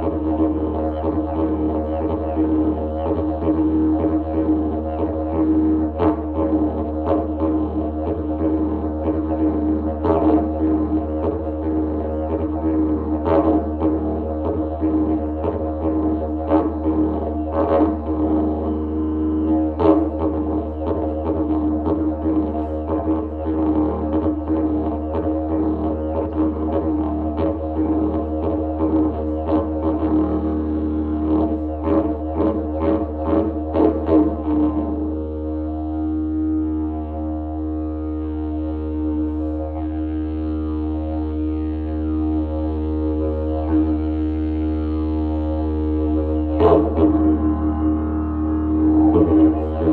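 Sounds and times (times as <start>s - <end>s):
didgeridoo drone: 0.0s - 49.9s.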